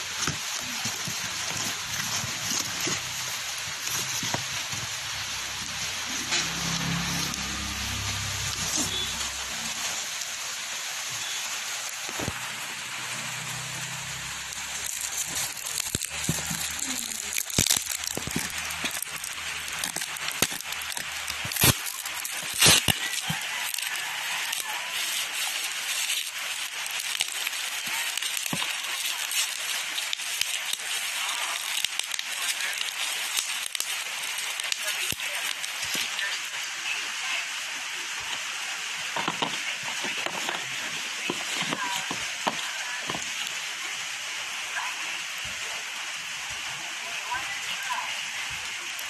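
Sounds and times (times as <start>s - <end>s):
bubble wrap crinkling: 0.0s - 44.2s.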